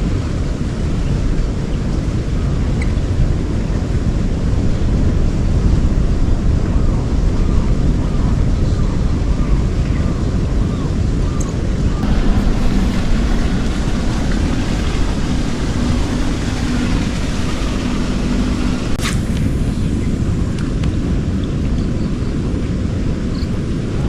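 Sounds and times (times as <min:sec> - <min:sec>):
low engine hum: 0:00.0 - 0:24.0
wind rumbling on microphone: 0:00.0 - 0:24.0.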